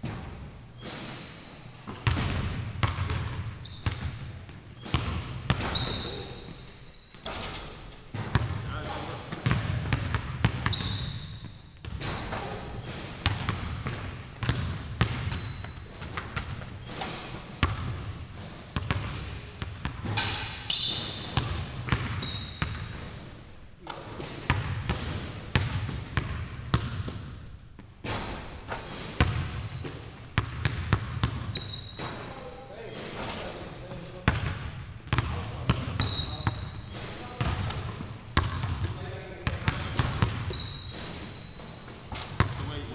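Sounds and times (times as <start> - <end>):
sneaker squeaks: 0.6 - 2.2, 2.8 - 23.2, 26.2 - 42.9
basketballs bouncing on hardwood: 1.9 - 6.2, 7.2 - 8.7, 9.3 - 17.0, 17.6 - 23.3, 24.2 - 32.3, 34.2 - 42.9.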